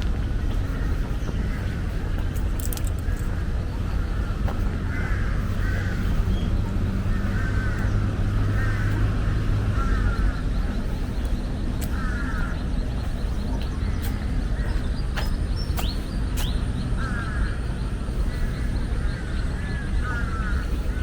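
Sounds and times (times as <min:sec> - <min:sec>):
harsh buzzy bird calls: 0:00.0 - 0:21.0
steady low rumble: 0:00.0 - 0:21.0.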